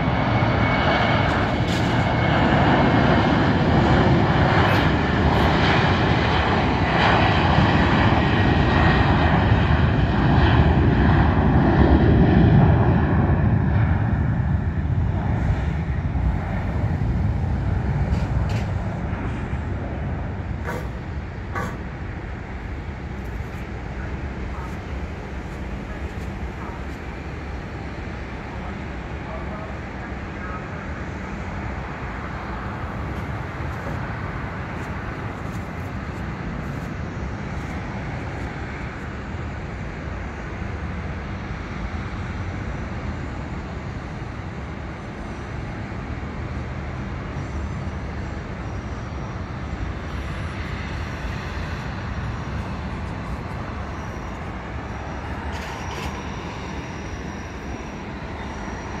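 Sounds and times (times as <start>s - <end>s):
distant jet engines rumbling: 0.0s - 59.0s.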